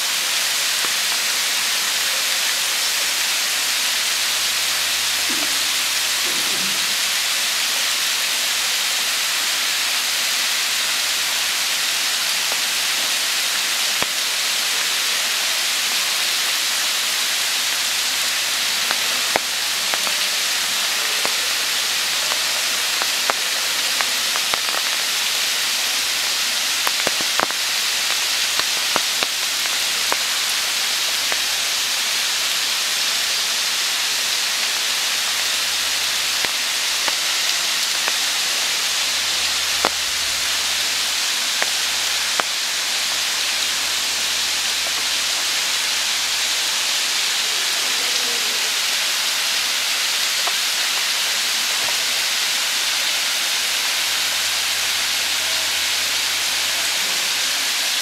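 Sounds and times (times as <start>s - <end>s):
waterfall splashing on rock: 0.0s - 58.0s.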